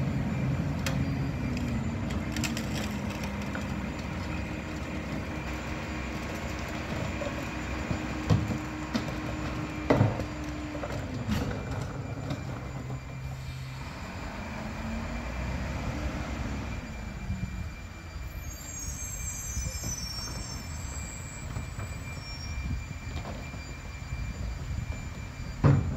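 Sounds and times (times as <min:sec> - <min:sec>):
garbage truck diesel engine running: 0:00.0 - 0:25.9.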